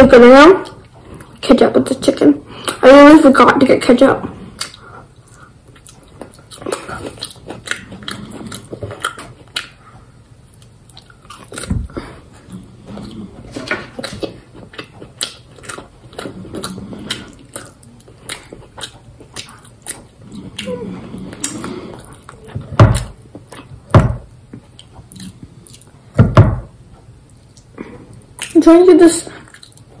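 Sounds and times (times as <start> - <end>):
person chewing food: 0.6 - 1.4, 4.3 - 28.6, 29.3 - 30.0.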